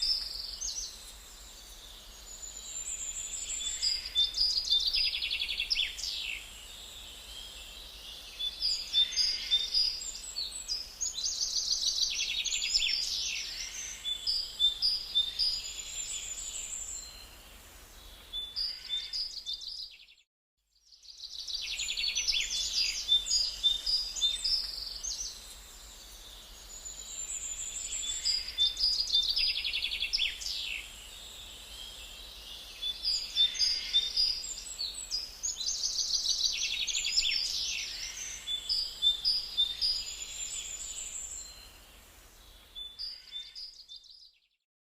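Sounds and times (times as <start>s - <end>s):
small birds chirping: 0.0s - 17.4s, 20.9s - 44.5s.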